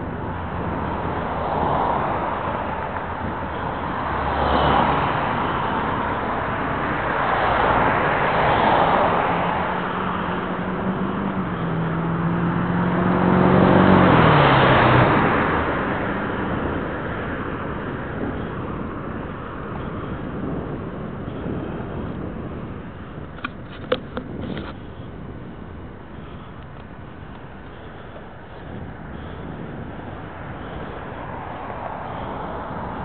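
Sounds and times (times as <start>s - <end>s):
cars passing by: 0.0s - 33.0s.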